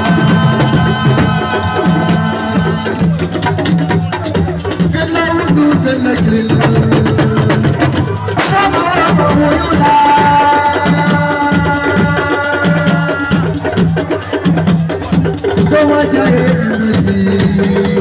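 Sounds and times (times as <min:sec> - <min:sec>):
band drums and percussion: 0:00.0 - 0:18.0.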